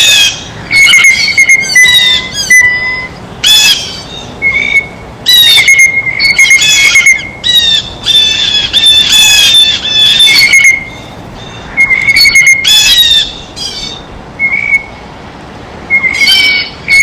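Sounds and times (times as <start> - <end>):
blue jays squawking: 0.0 - 14.1.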